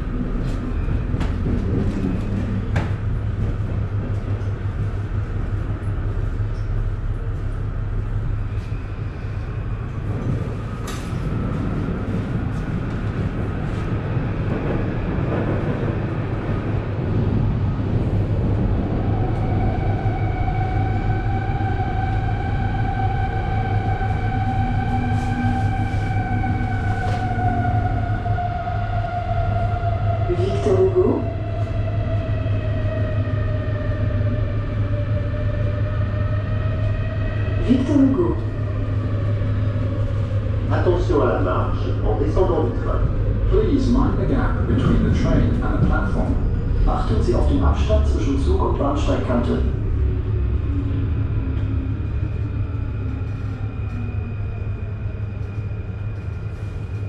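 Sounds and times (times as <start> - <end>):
subway train rumbling with motor whine: 0.0 - 57.0.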